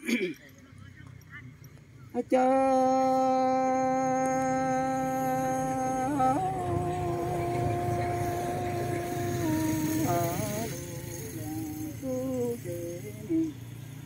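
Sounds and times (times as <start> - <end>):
person singing long notes: 2.2 - 13.6.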